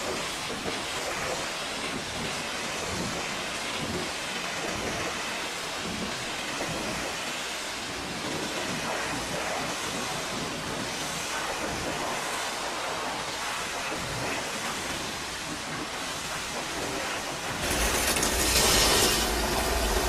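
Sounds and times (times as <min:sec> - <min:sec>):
water spraying onto a car: 0:00.0 - 0:20.0.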